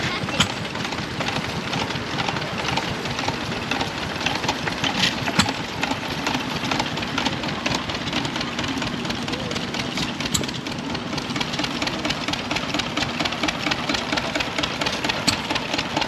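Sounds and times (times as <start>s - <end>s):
engine idling with ticking clatter: 0.0s - 16.0s
sharp engine knock: 0.3s - 16.0s.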